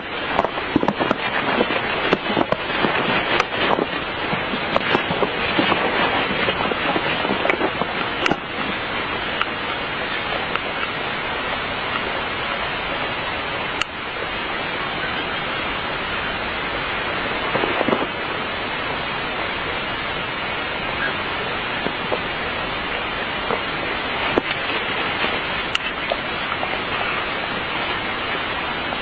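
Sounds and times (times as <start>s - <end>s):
crackle: 0.0s - 29.0s
steady rushing noise: 0.0s - 29.0s.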